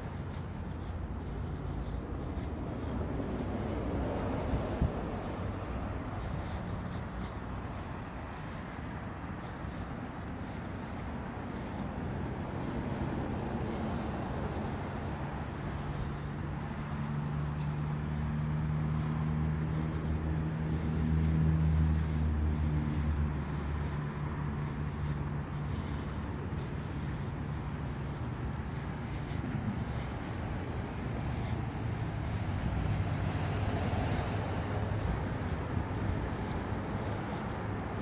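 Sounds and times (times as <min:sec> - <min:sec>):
car engine idling: 0:00.0 - 0:38.0
outdoor background noise: 0:00.0 - 0:38.0.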